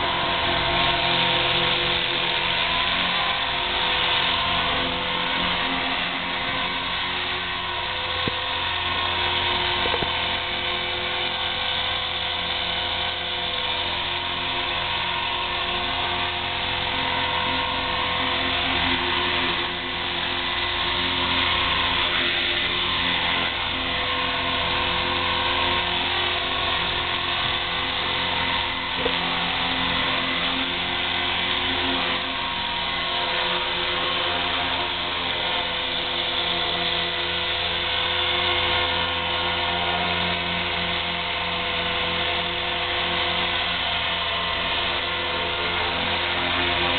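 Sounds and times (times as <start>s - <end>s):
rc helicopter motor whine: 0.0s - 46.9s.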